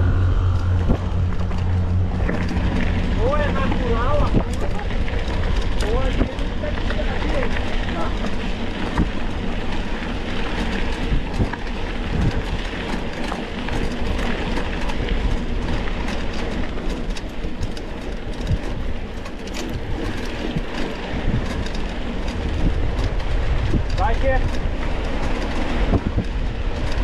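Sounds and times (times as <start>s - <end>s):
mountain bike rattling: 0.0s - 27.0s
wind buffeting microphone: 0.0s - 27.0s.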